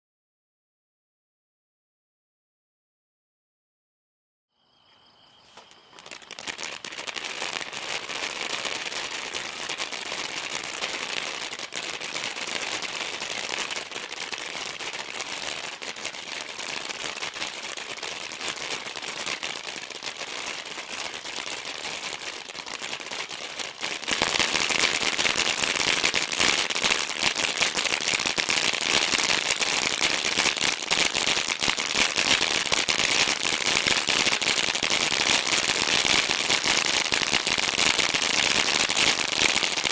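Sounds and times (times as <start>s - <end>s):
firework fountain hissing and crackling: 4.8s - 39.9s.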